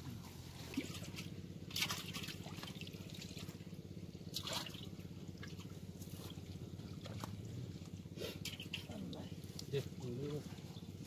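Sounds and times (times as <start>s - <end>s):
water splashing and dripping: 0.6s - 3.7s, 4.3s - 10.4s.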